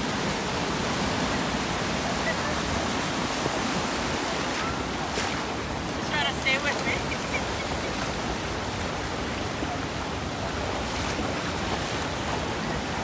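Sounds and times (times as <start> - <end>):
surf washing over water: 0.0 - 13.0.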